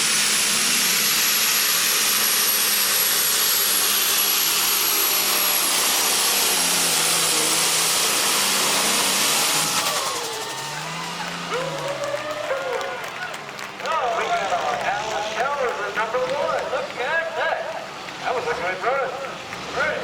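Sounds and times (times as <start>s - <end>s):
high turbo whine: 0.0s - 20.0s
tractor engine running flat out: 0.0s - 20.0s.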